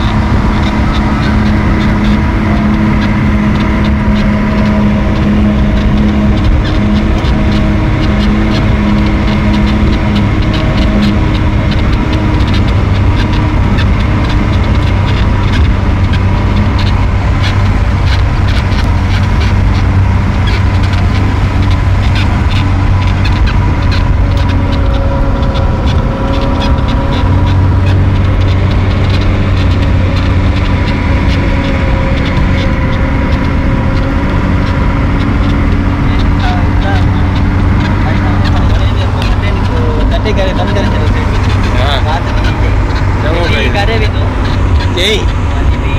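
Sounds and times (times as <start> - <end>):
vehicle engine running: 0.0 - 45.9.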